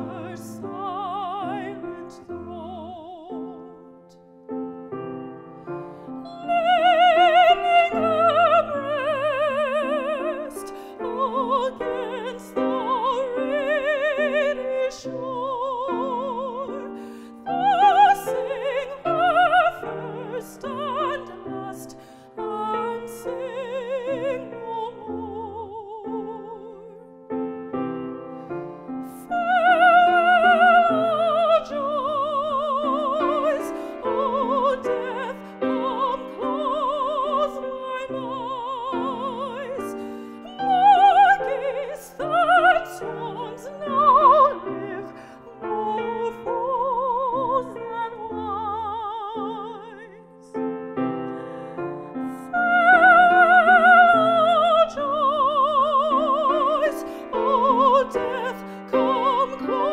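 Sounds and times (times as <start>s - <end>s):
grand piano: 0.0s - 59.9s
woman singing classical style: 0.0s - 59.9s.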